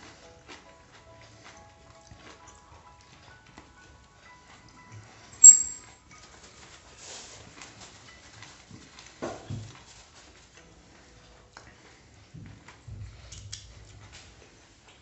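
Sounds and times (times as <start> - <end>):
man chewing with wet mouth sounds: 0.0 - 5.2, 7.5 - 15.0.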